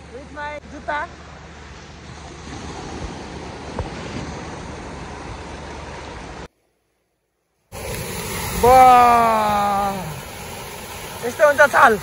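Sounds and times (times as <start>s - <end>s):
waves washing on sandy beach: 0.0s - 6.5s, 7.7s - 12.0s.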